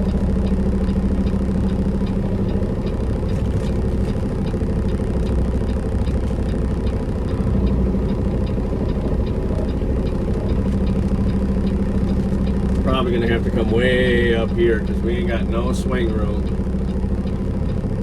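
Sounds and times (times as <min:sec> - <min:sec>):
diesel truck engine idling: 0:00.0 - 0:18.0
faint regular ticking: 0:00.0 - 0:18.0.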